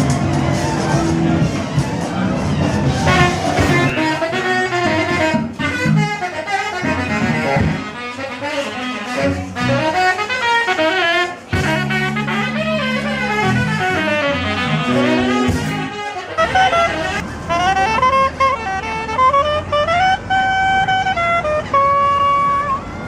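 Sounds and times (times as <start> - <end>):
jazz band playing: 0.0 - 22.9
saxophone and brass horns: 0.0 - 23.0.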